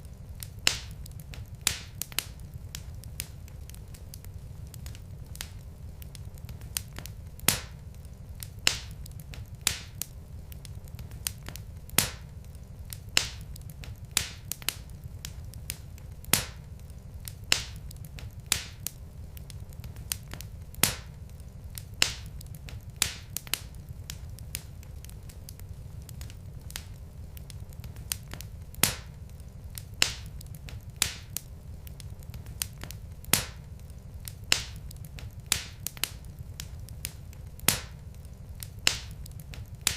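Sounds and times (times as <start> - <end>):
fire low rumble: 0.0 - 39.9
logs crackling and popping: 0.0 - 39.9.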